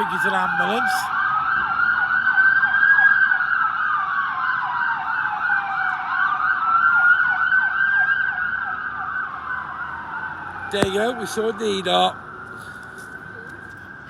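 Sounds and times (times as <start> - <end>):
siren slow wail: 0.0 - 14.0.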